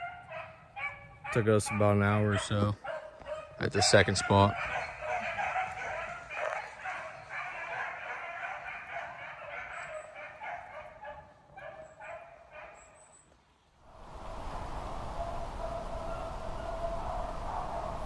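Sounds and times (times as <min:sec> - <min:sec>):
pack of dogs baying: 0:00.0 - 0:13.0, 0:15.2 - 0:18.0.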